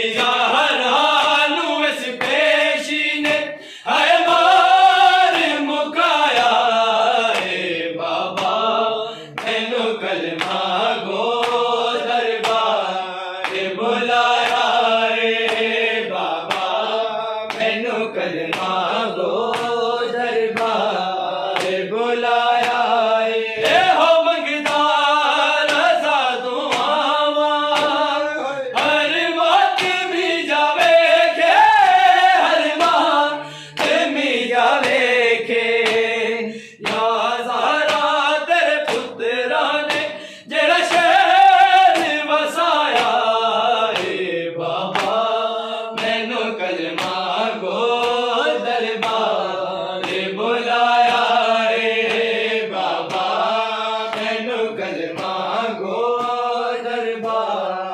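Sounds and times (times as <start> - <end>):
men chanting in unison: 0.0 - 57.9.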